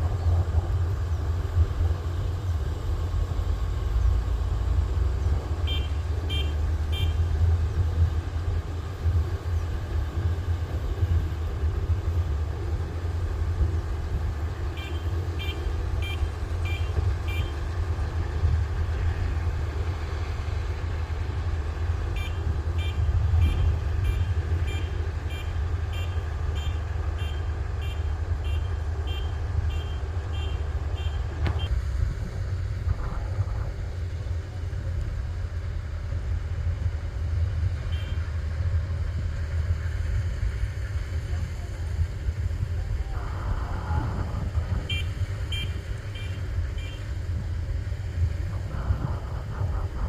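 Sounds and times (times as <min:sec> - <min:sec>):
diesel engine droning: 0:00.0 - 0:50.0.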